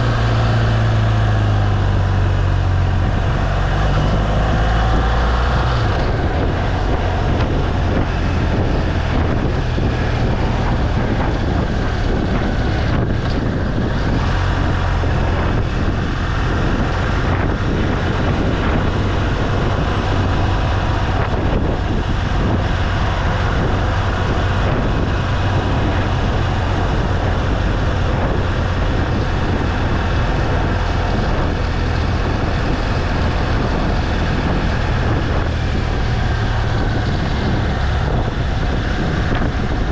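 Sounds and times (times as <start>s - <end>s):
motorcycle engine drone: 0.0s - 39.9s
wind noise on microphone: 0.0s - 39.9s.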